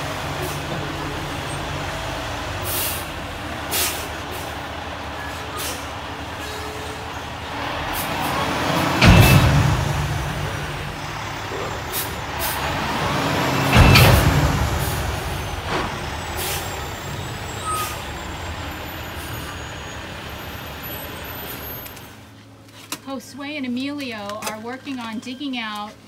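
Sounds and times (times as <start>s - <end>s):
diesel engine running: 0.0s - 22.6s.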